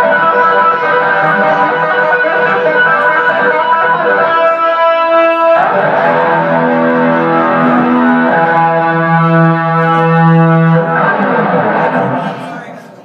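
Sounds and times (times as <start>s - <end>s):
electric guitar solo: 0.0s - 12.8s.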